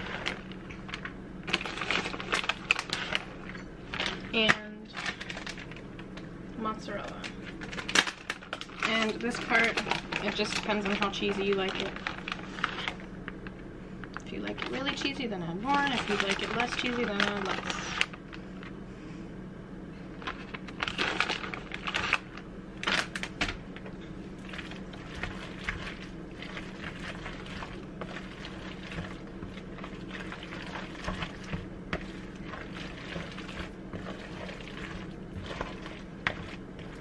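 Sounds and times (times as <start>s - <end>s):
plastic bag rustling: 0.0s - 6.0s, 6.9s - 18.7s, 20.1s - 37.0s
steady low hum: 0.0s - 37.0s.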